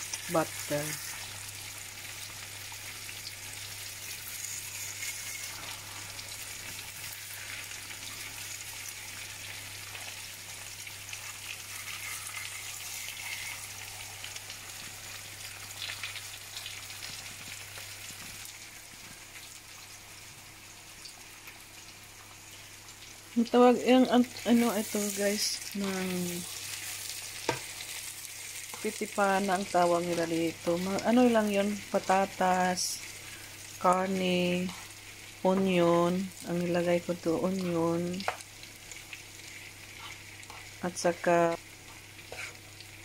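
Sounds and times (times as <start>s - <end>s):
eggs sizzling in oil: 0.0s - 43.0s.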